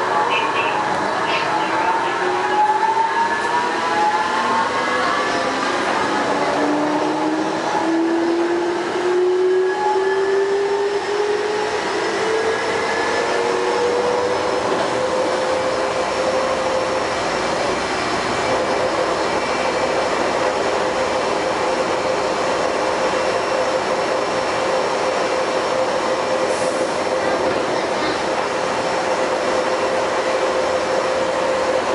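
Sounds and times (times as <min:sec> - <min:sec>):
train rolling noise: 0:00.0 - 0:31.9.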